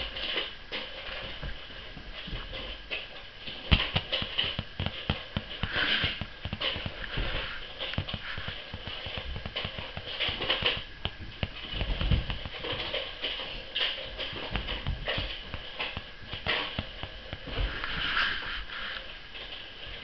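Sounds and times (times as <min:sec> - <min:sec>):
kittens thumping and scratching: 0:00.0 - 0:20.0
rustling: 0:00.0 - 0:20.0.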